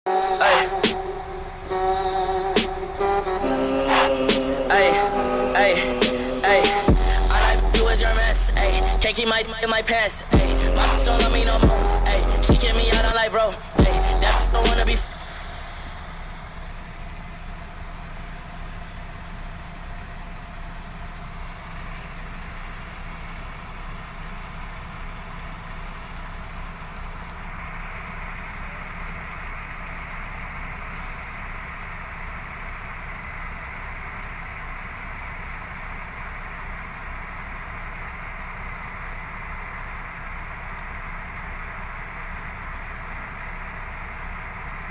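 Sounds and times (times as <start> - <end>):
diesel engine running: 0.1 - 44.9.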